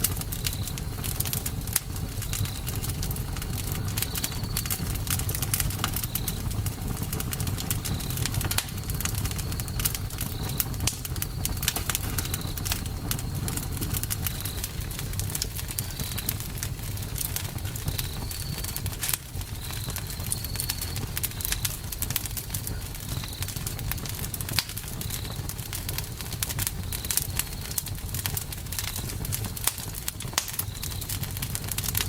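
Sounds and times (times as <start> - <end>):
low rumble of flames: 0.0 - 32.0
wood crackling and popping: 0.0 - 32.0.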